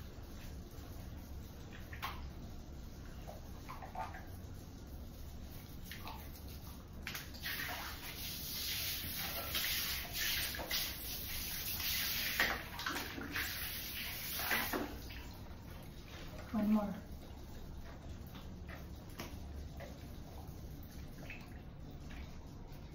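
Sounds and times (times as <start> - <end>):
shower water running and splashing: 0.0 - 22.9.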